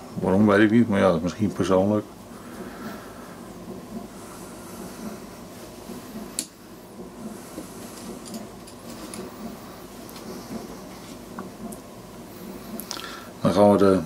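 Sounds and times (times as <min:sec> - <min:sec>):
low room hum with faint pulsing: 0:00.0 - 0:14.0.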